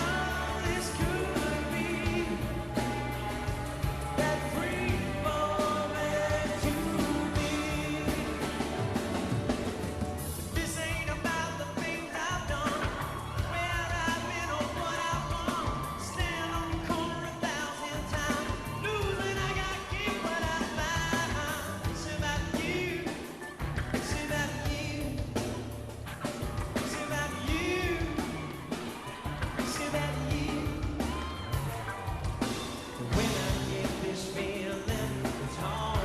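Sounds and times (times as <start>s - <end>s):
person singing: 0.0s - 25.6s, 26.5s - 36.0s
rock band playing: 0.0s - 36.0s.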